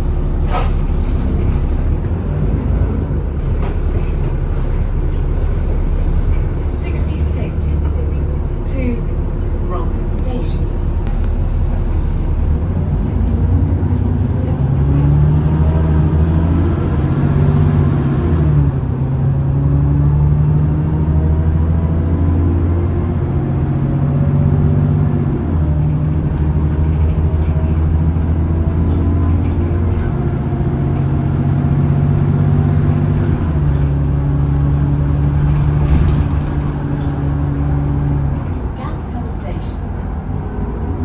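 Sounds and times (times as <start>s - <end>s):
diesel bus engine changing gear: 0.0s - 41.0s.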